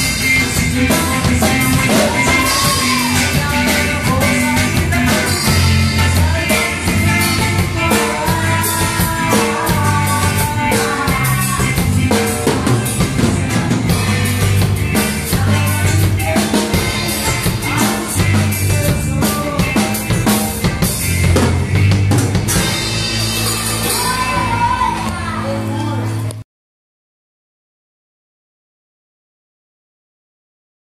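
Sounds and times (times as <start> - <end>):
drum kit steady beat: 0.0 - 25.4
instrumental band playing: 0.0 - 26.4.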